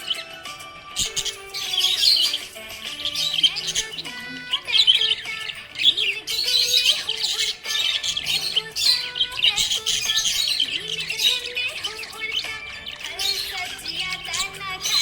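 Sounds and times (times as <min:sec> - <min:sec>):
music playing: 0:00.0 - 0:15.0
parrots chirping and chattering: 0:00.0 - 0:15.0.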